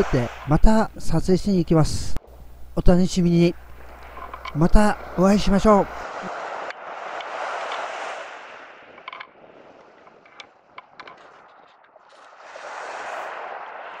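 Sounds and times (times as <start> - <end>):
small waves washing onto beach: 0.0 - 0.5, 2.2 - 14.0.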